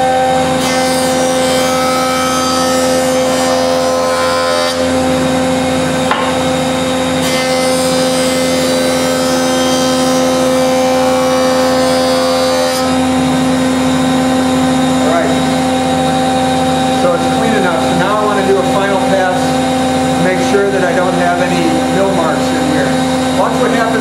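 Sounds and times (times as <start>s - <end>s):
board being planed: 0.0s - 24.0s
jointer motor hum: 0.0s - 24.0s.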